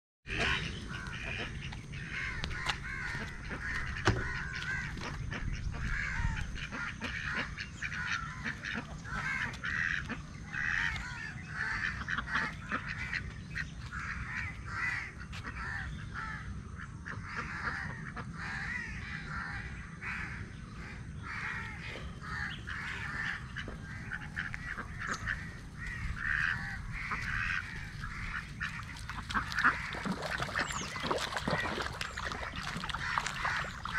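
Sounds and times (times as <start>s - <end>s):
birds calling: 0.3s - 33.9s
ducks quacking: 0.3s - 33.9s.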